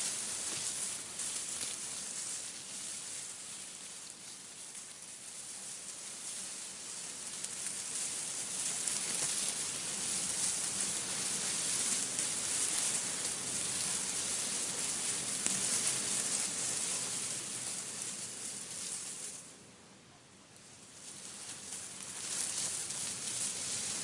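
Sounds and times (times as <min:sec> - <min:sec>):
wind rustling tree leaves: 0:00.0 - 0:24.0.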